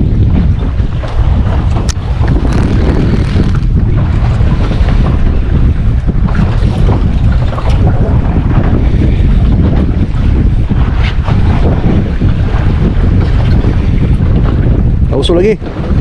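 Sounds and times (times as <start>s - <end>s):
sea wash: 0.0s - 16.0s
wind buffeting microphone: 0.0s - 16.0s.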